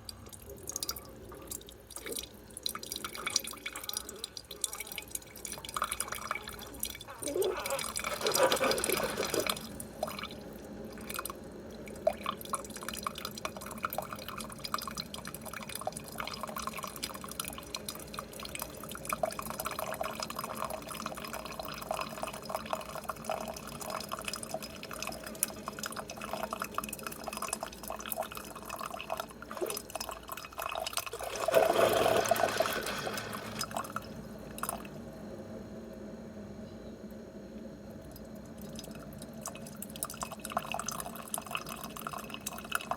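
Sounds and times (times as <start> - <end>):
liquid gushing: 0.0 - 34.9
coffee streaming into cup: 0.0 - 35.3, 38.0 - 42.9.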